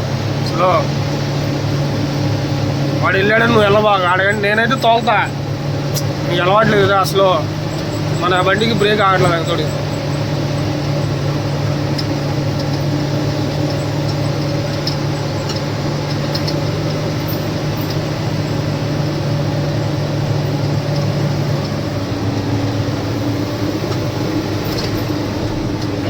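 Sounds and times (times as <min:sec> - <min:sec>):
lorry diesel engine running: 0:00.0 - 0:26.0.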